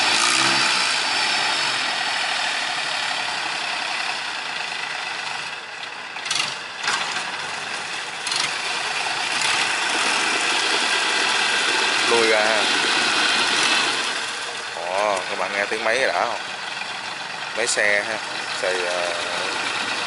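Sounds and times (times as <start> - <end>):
boat diesel engine running: 0.0 - 20.0.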